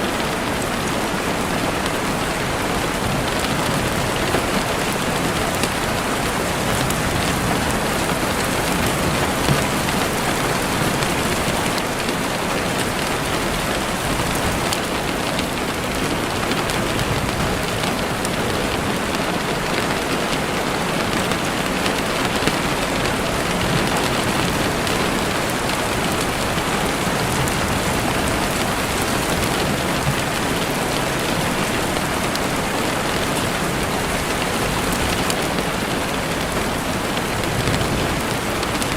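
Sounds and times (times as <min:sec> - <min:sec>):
rain falling through trees: 0:00.0 - 0:38.9.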